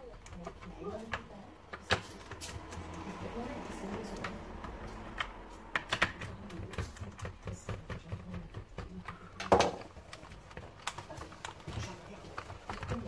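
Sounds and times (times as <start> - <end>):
plastic parts clicking and tapping: 0.0 - 13.0.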